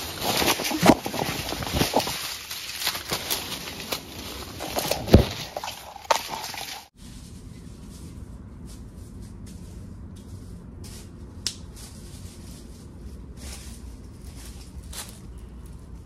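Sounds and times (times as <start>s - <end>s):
brush rustling against camera: 0.0s - 15.4s
footsteps on dry leaves: 0.0s - 15.7s.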